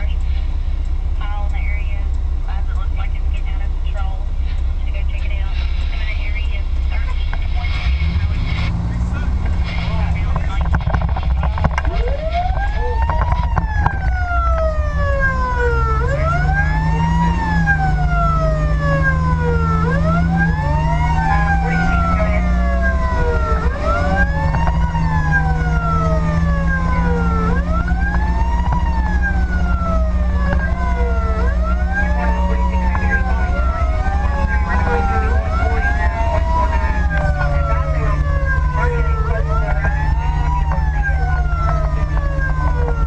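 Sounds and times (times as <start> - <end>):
fire engine siren wailing: 0.0 - 43.0
truck engine rumble: 0.0 - 43.0
second siren wail: 7.8 - 43.0.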